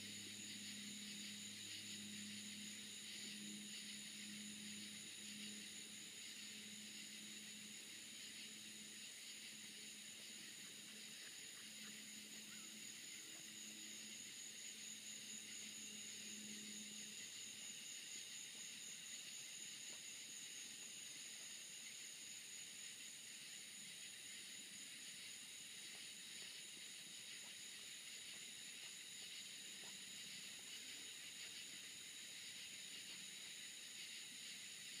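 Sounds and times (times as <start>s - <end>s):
night insects trilling: 0.0s - 35.0s.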